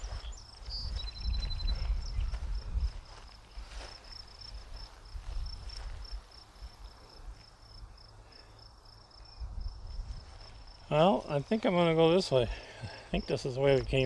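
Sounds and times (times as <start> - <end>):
faint footsteps: 0.0 - 7.8, 9.8 - 14.0
insect chirping: 0.0 - 11.8.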